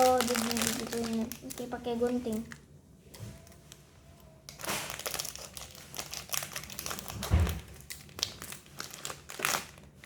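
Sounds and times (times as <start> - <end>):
packaging crinkling and rustling: 0.0 - 2.6, 3.2 - 10.0.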